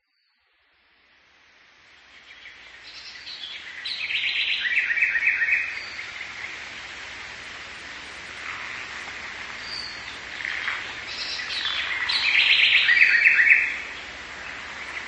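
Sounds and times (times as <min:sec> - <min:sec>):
background hiss: 0:00.0 - 0:15.0
birds chirping and trilling: 0:02.1 - 0:15.0.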